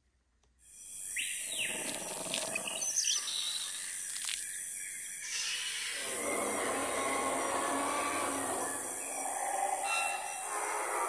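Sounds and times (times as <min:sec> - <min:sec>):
high insect buzz: 0:00.7 - 0:11.0.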